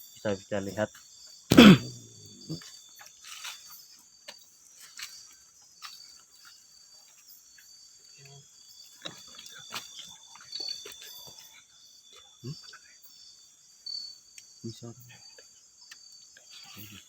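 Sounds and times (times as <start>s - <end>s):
crickets and insects chirring: 0.0s - 17.0s.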